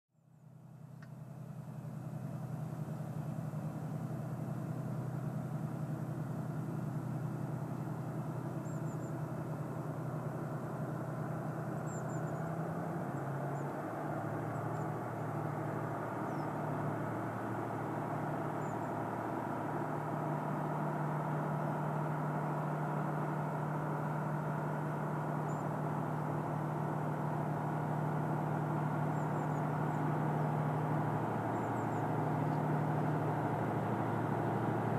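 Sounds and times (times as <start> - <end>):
locomotive engine droning: 0.4 - 34.9.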